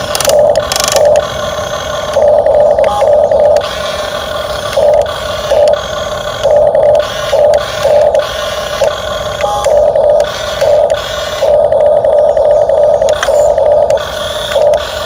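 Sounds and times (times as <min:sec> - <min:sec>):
toy excavator motors whirring: 0:00.0 - 0:15.0.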